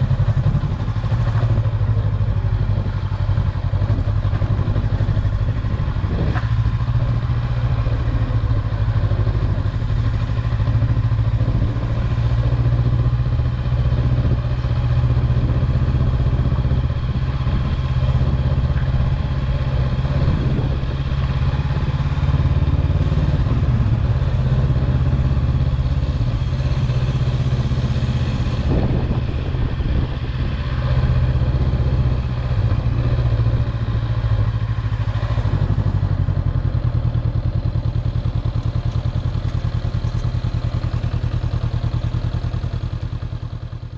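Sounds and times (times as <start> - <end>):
engine humming: 0.0 - 43.9.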